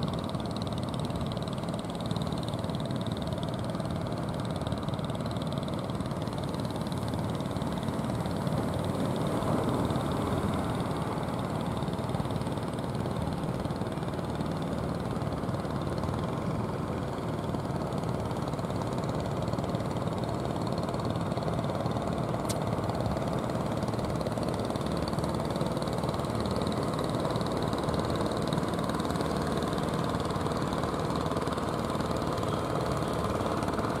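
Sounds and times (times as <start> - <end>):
boat diesel engines droning: 0.0 - 34.0.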